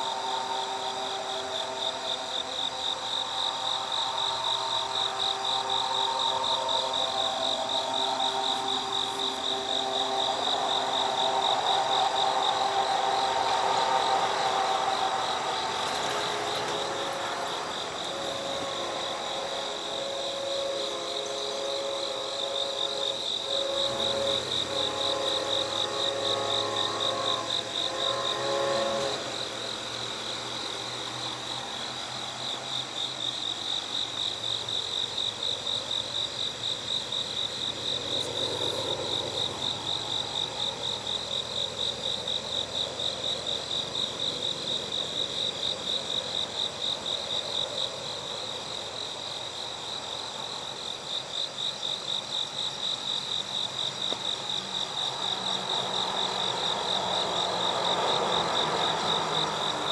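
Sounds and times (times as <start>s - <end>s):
locomotive rumble: 0.0s - 49.4s
distant locomotive horn: 0.0s - 51.2s, 53.0s - 59.9s
night insects chirping: 0.0s - 59.9s.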